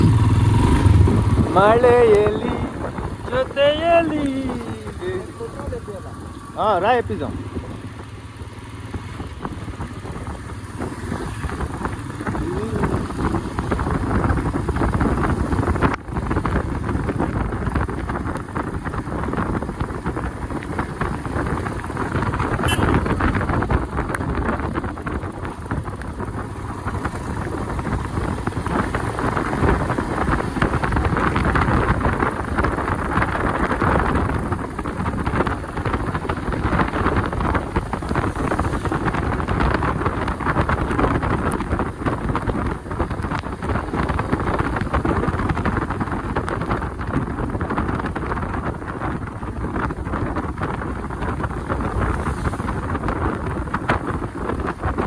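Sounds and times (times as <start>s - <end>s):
bike road noise: 0.0s - 55.0s
wind buffeting microphone: 0.0s - 55.0s
wind rush: 0.0s - 55.0s.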